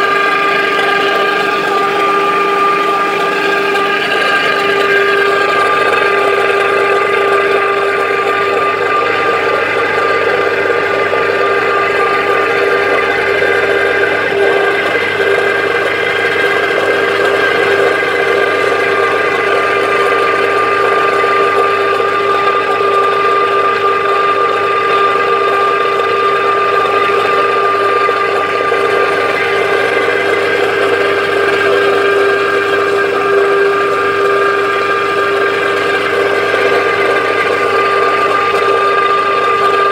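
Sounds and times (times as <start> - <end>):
oil mill machinery running: 0.0 - 39.9.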